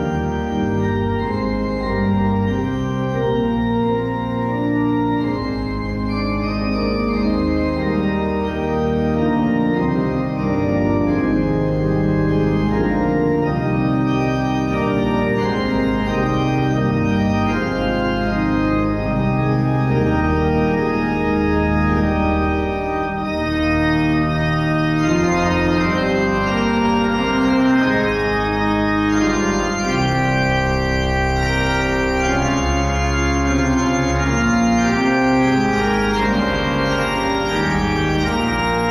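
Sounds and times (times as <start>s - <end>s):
organ playing hymn chords: 0.0s - 38.9s.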